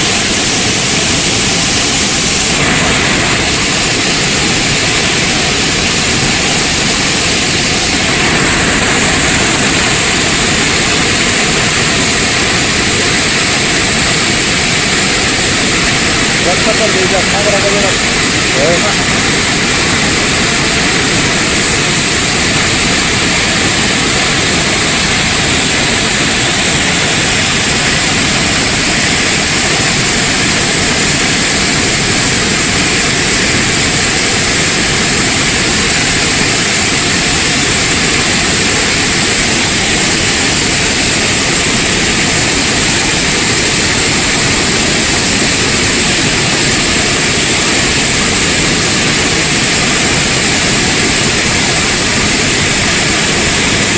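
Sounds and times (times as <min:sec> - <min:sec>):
river torrent rushing: 0:00.0 - 0:53.9.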